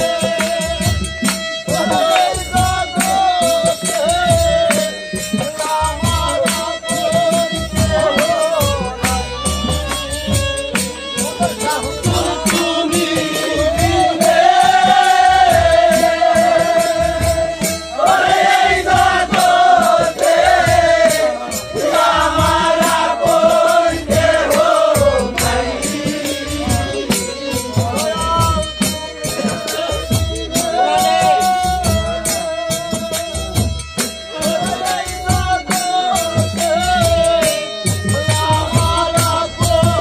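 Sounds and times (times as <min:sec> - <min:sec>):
rattling hand percussion: 0:00.0 - 0:40.0
steady drum beat: 0:00.0 - 0:40.0.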